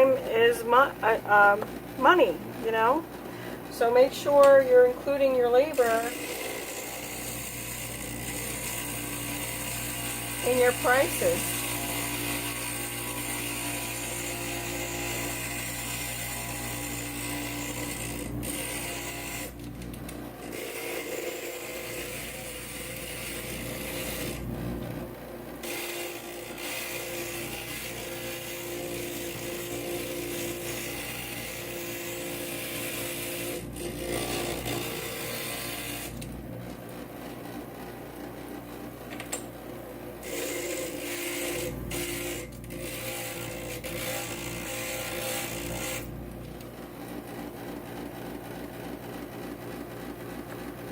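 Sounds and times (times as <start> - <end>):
grinder motor hum: 0.0 - 50.9.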